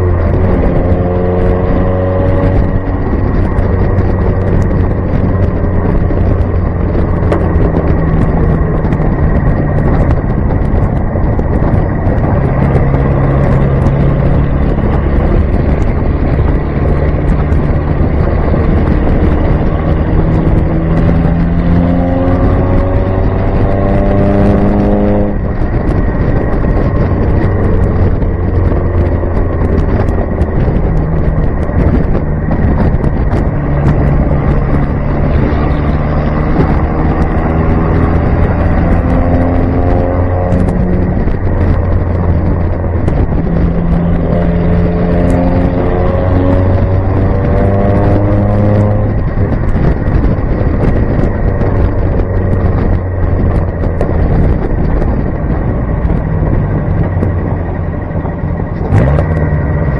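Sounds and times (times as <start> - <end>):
car engine accelerating: 0.0 - 59.9
wind and road rush: 0.0 - 59.9.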